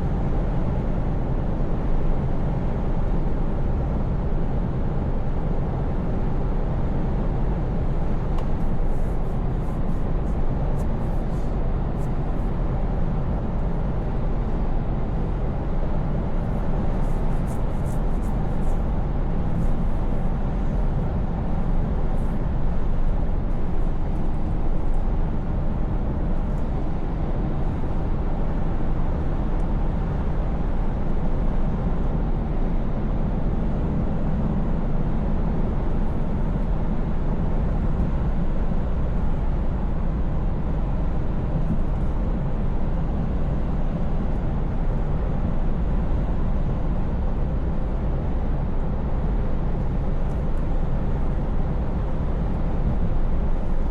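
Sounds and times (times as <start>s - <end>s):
truck engine and road drone: 0.0s - 53.9s.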